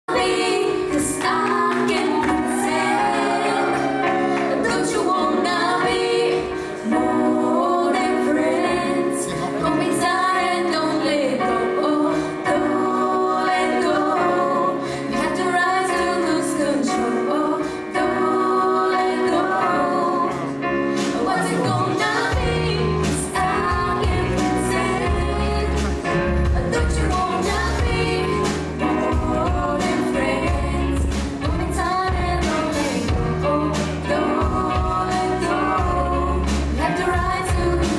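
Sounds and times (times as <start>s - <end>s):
live band playing: 0.1s - 37.9s
woman singing into microphone: 0.1s - 37.9s.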